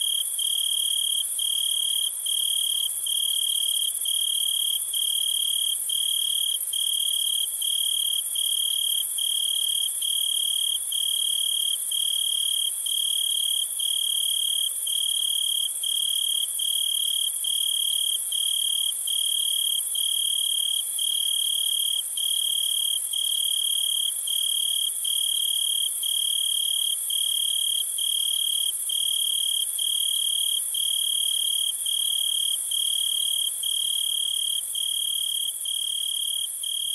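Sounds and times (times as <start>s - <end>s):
crickets chirping: 0.0s - 36.9s.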